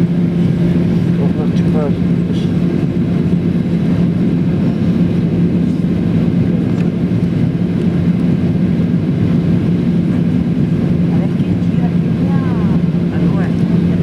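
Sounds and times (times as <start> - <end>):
airplane cabin drone: 0.0 - 14.0
jet engine noise and airflow: 0.0 - 14.0.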